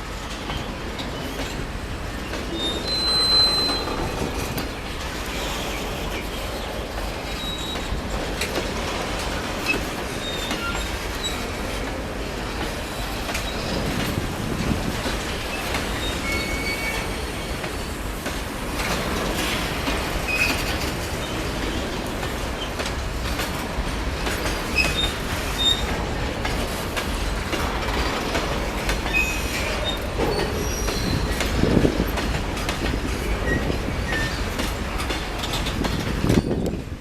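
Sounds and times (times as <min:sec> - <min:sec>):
train wheels rumbling and clattering: 0:00.0 - 0:37.0
high squeaks of train wheels: 0:00.3 - 0:12.0, 0:12.6 - 0:14.2, 0:15.0 - 0:23.6, 0:24.2 - 0:36.9.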